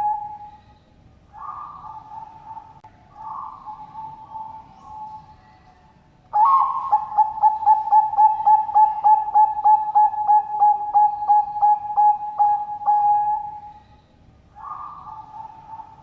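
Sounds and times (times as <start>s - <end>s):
dove cooing: 0.0s - 0.7s, 1.4s - 5.4s, 6.4s - 13.9s, 14.6s - 16.0s.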